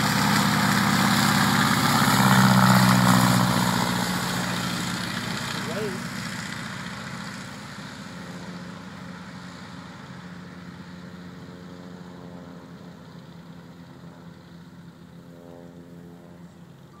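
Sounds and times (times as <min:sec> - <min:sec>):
radial aircraft engine droning: 0:00.0 - 0:17.0.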